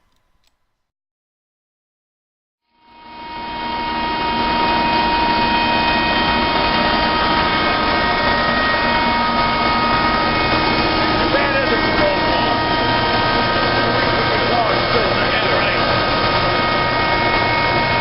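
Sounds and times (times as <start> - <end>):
air compressor running with whine: 2.7 - 18.0.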